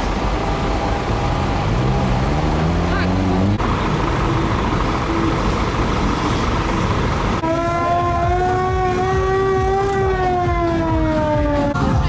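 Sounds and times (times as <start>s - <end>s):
heavy vehicle rumble: 0.0s - 12.0s.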